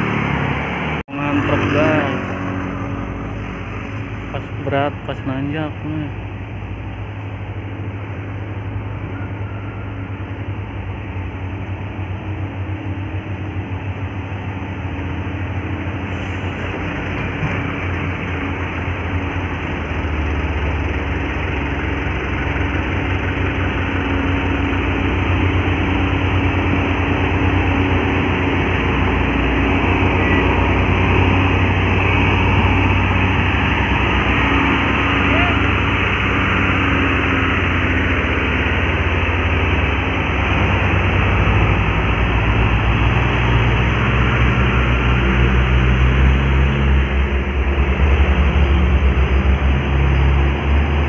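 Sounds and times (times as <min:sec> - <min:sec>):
diesel engine labouring: 0:00.0 - 0:51.0
road noise: 0:00.0 - 0:51.0.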